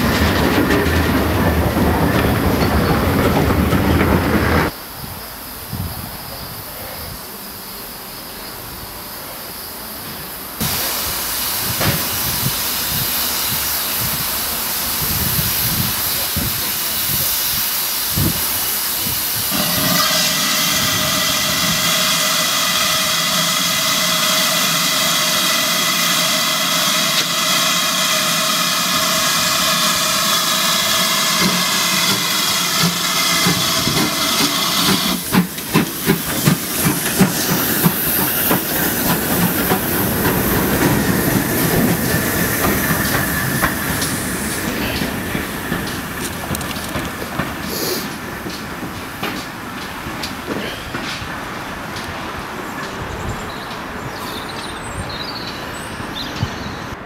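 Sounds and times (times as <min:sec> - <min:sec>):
rumble and clatter of train: 0:00.0 - 0:07.4, 0:08.6 - 0:57.0
steam locomotive hissing: 0:00.0 - 0:57.0.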